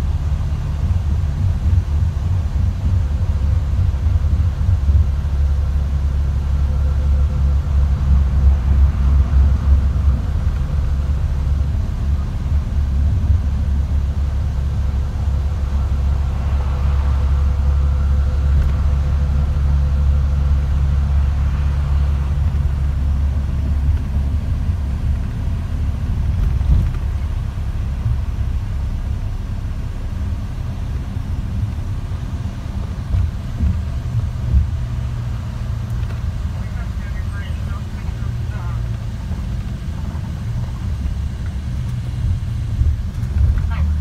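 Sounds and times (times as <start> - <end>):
car interior road rumble: 0.0 - 44.0.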